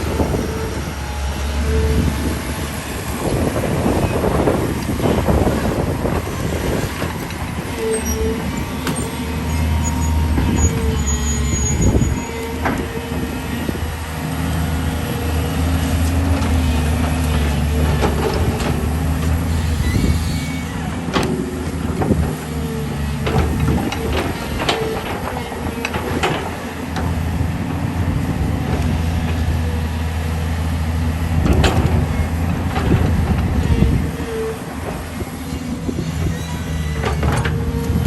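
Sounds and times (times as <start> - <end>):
excavator diesel engine droning: 0.0 - 38.0.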